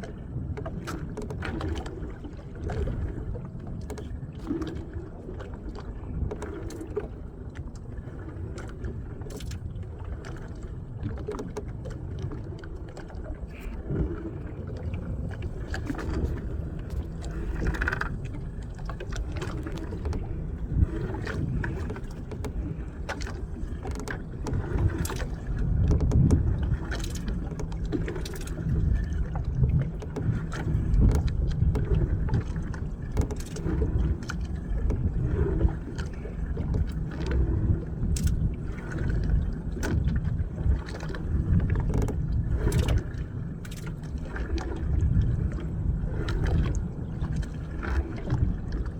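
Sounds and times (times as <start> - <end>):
boat engine running: 0.0 - 48.9
wind and water rumble: 0.0 - 48.9.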